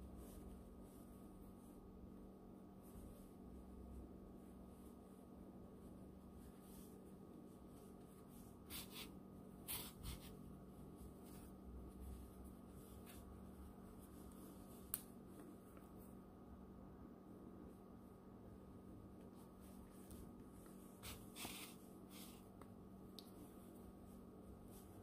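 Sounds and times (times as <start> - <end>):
yarn rustling through fabric: 0.0 - 16.3, 17.6 - 22.6, 23.3 - 25.0.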